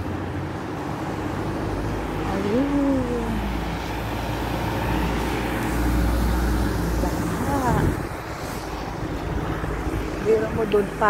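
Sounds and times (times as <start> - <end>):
street traffic noise: 0.0 - 11.0
vehicle low rumble: 0.0 - 11.0.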